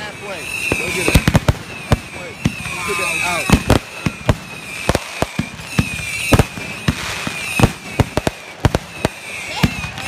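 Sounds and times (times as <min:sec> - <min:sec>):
crackling fireworks fizzing: 0:00.0 - 0:10.0
fireworks booming: 0:00.0 - 0:10.0.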